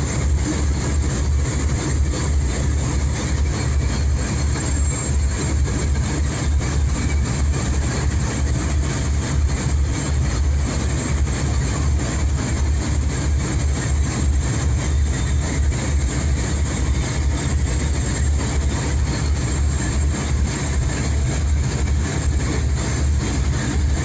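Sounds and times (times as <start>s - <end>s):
motorboat engine droning: 0.0s - 24.0s.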